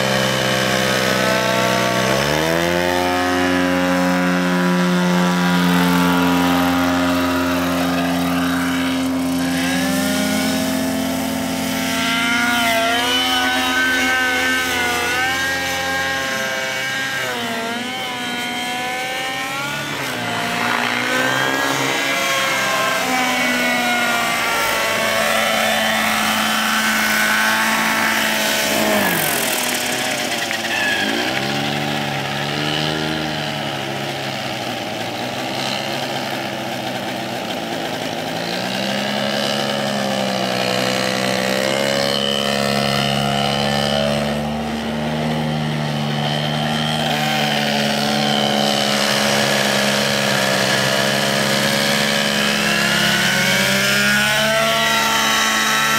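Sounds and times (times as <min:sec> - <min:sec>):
model helicopter engine: 0:00.0 - 0:55.9.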